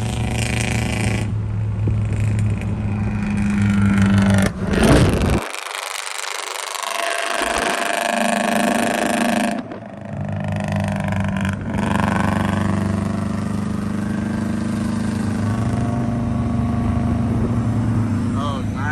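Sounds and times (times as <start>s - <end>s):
car exhaust low drone: 0.0s - 18.9s.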